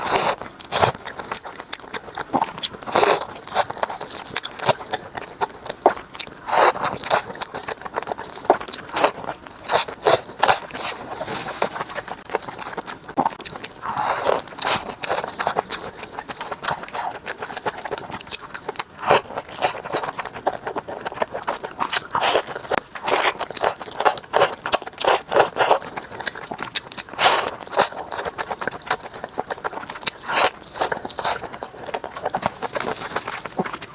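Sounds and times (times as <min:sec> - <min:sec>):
crunchy food chewing: 0:00.0 - 0:33.9.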